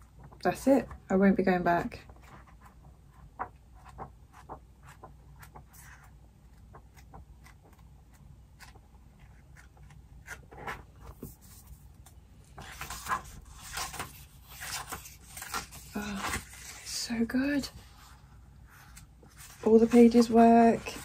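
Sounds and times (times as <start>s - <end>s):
paper pages rustling: 2.0s - 21.0s.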